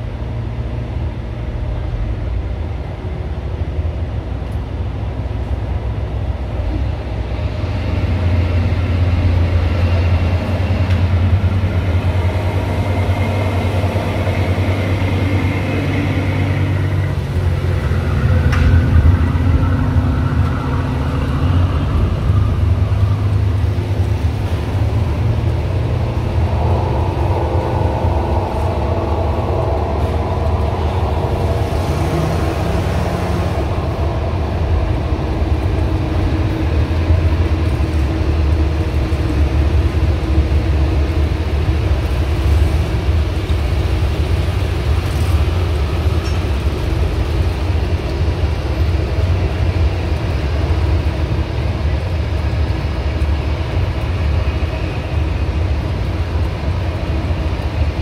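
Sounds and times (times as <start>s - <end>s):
low engine drone: 0.0s - 58.0s
passing engines: 3.9s - 58.0s.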